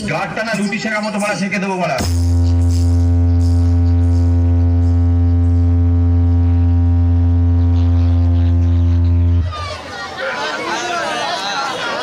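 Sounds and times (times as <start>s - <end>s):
deep steady bass tone: 0.0s - 9.8s.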